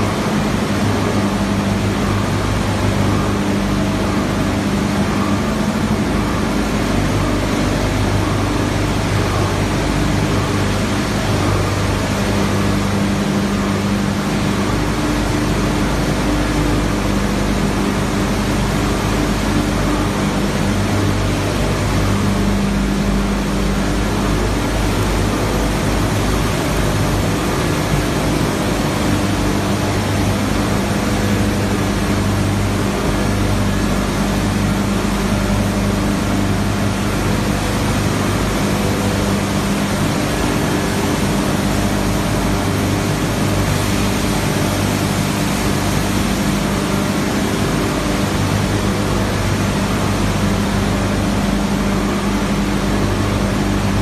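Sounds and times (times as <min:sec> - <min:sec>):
washing line machinery noise: 0:00.0 - 0:54.0
water churning in tanks: 0:00.0 - 0:54.0.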